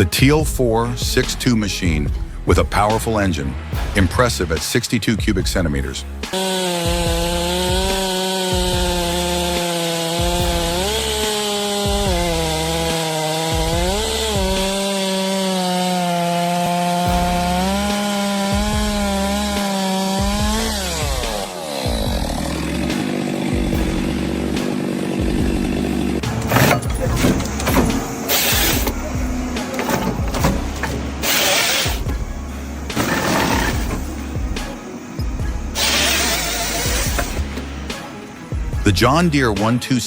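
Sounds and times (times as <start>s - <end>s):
chainsaw cutting wood: 5.7s - 39.8s.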